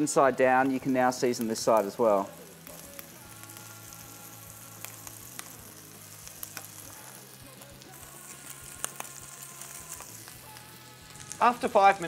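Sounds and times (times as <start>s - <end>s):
fish sizzling in a pan: 0.0s - 12.0s
oil crackling and popping: 0.0s - 12.0s.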